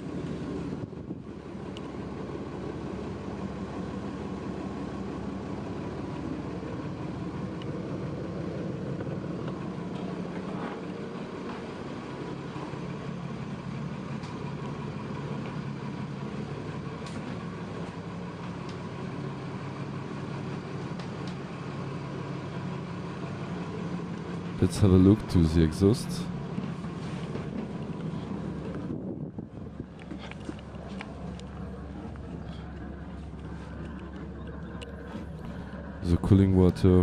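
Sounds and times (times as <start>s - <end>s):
diesel engines idling: 0.0s - 37.0s.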